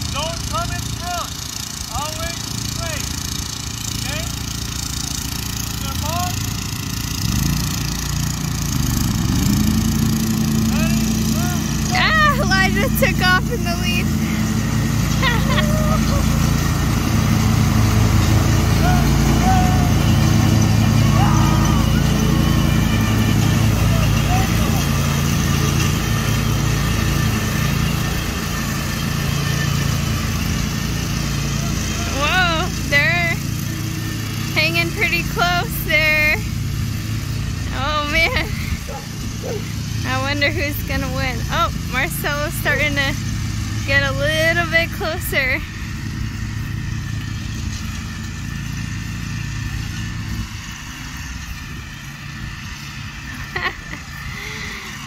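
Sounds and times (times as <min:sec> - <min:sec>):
small gasoline engines droning: 0:00.0 - 0:55.0.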